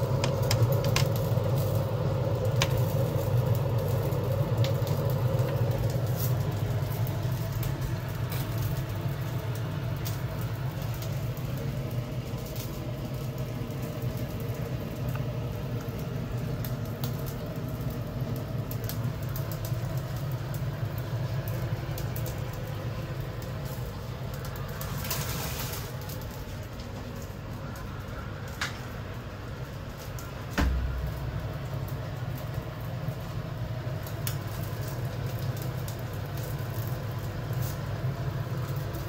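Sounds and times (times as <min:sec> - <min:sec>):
fish crackling on grill: 0:00.0 - 0:39.0
gas burner flame rumble: 0:00.0 - 0:39.0.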